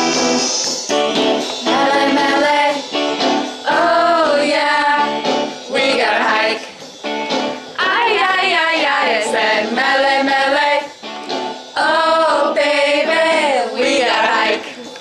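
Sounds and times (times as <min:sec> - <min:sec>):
women singing with music: 0:01.4 - 0:15.0.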